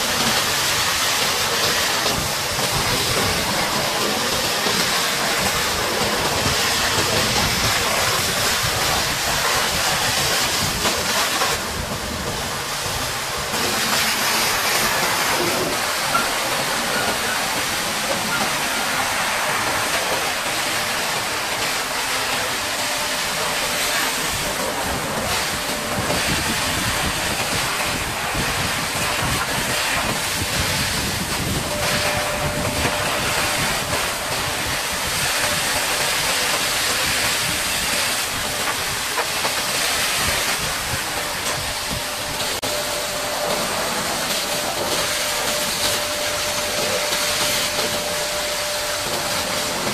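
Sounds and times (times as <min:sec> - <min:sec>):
water jet spraying: 0:00.0 - 0:49.9.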